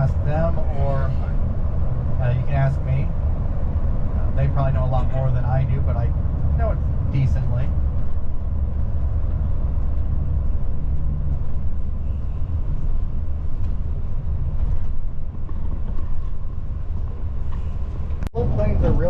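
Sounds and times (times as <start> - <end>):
coach engine and tyres rumbling: 0.0 - 19.0.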